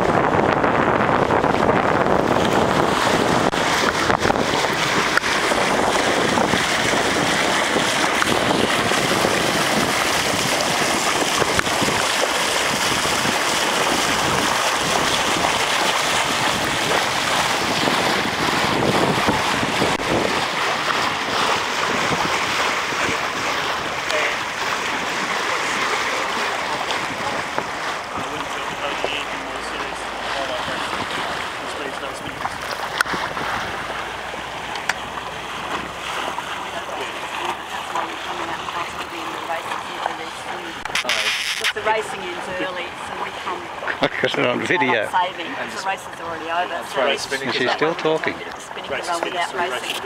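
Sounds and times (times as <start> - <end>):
wind buffeting microphone: 0.0 - 49.0
water rushing along hull: 0.0 - 50.0.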